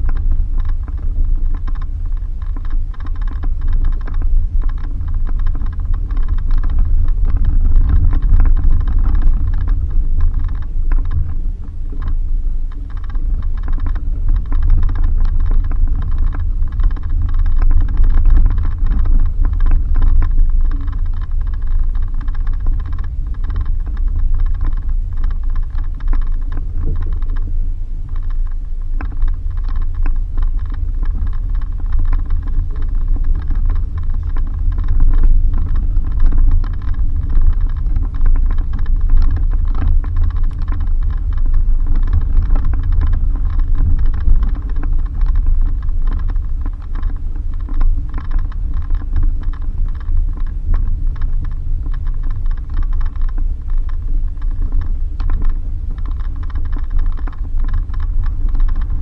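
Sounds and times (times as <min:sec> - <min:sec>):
rattles and knocks: 0:00.0 - 0:59.0
vehicle low rumble: 0:00.0 - 0:59.0.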